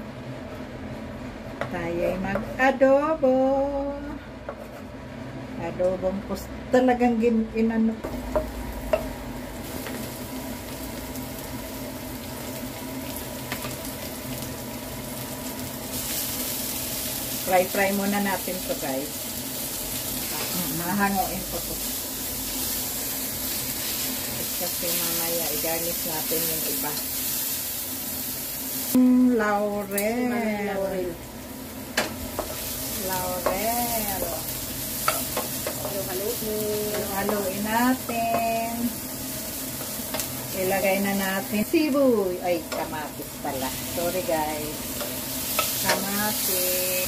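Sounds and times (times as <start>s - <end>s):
garlic and onion sizzling in oil: 6.8s - 47.0s.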